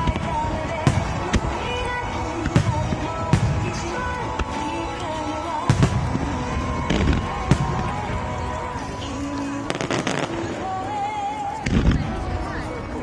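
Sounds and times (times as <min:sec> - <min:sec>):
fireworks bursting with sharp bangs: 0:00.0 - 0:12.6
pop music over loudspeakers: 0:00.0 - 0:13.0.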